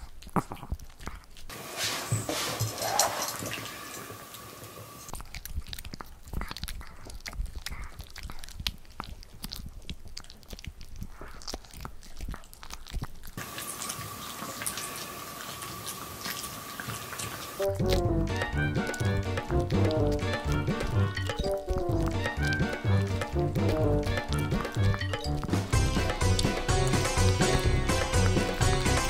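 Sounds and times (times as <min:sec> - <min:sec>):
dog gnawing chew stick: 0:00.0 - 0:01.5, 0:02.3 - 0:29.0.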